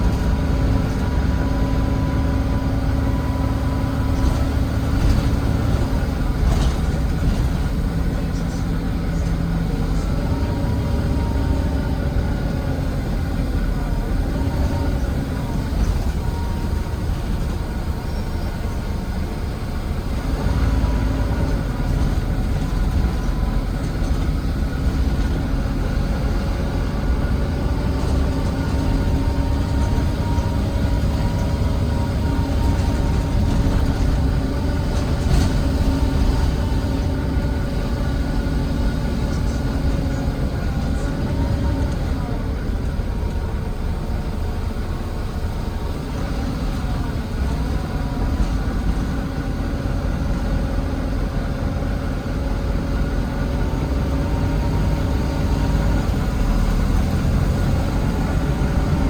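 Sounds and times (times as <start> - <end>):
bus diesel engine rumble: 0.0 - 59.0
drivetrain whining: 0.0 - 59.0.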